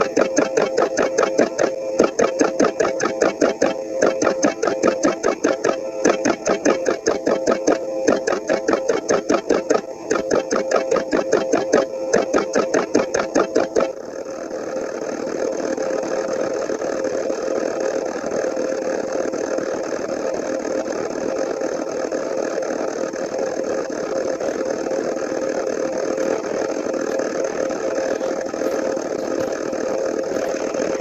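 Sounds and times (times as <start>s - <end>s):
engine running with steady hum: 0.0s - 31.0s.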